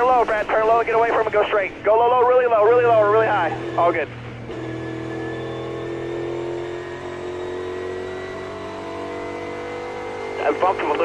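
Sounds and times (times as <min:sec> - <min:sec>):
race car engine running: 0:00.0 - 0:11.0.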